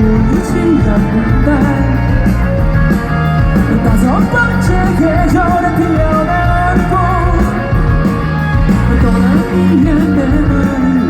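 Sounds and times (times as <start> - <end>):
drums: 0.0 - 11.0
electric guitars: 0.0 - 11.0.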